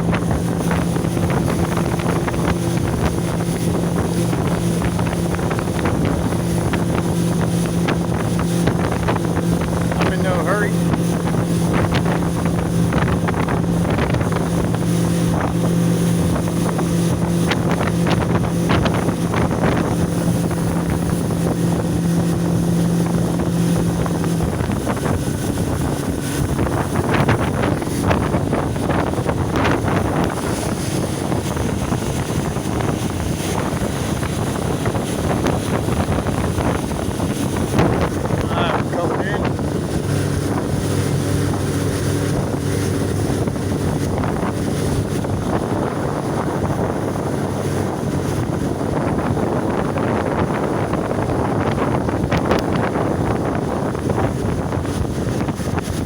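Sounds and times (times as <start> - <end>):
outboard motor running: 0.0 - 56.0
wind buffeting microphone: 0.0 - 56.0.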